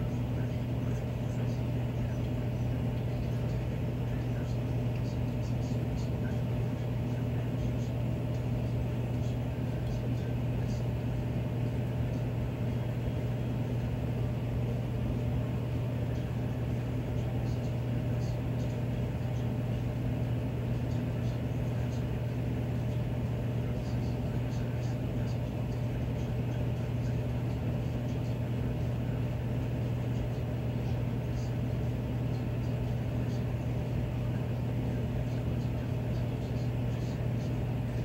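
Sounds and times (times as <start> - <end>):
furnace blower humming: 0.0 - 38.0.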